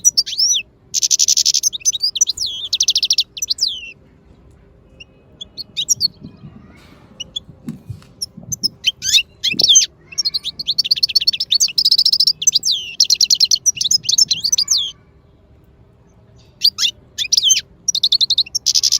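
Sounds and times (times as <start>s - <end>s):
small parrots chirping: 0.0s - 4.0s, 4.9s - 15.0s, 16.4s - 18.9s.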